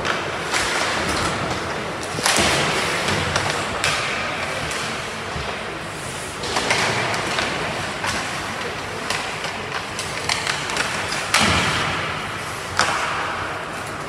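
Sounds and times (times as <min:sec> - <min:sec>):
sticks and puck clacking: 0:00.0 - 0:14.0.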